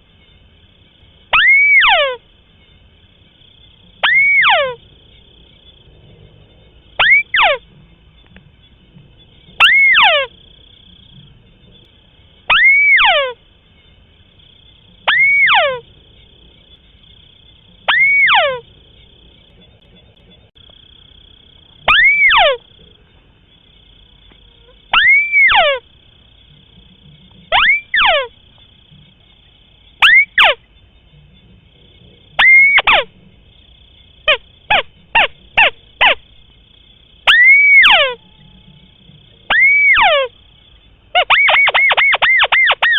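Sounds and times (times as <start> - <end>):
crake calling: 1.2 - 42.9
faint steady high tone: 6.4 - 42.9.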